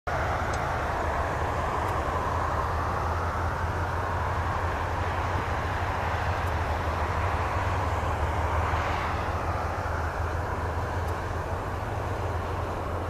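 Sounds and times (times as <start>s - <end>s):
distant jet engines rushing: 0.1s - 13.0s.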